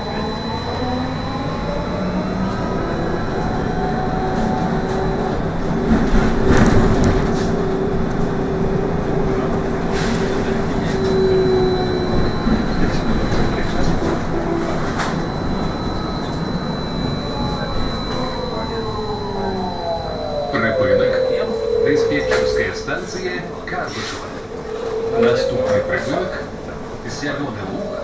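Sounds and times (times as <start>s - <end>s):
trolleybus electric motor whine: 0.0s - 28.0s.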